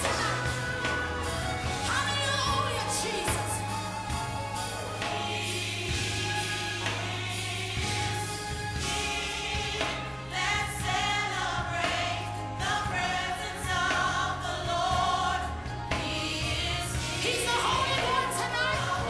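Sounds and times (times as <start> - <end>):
choir singing gospel: 0.0 - 19.0
steady bass notes: 0.0 - 19.0.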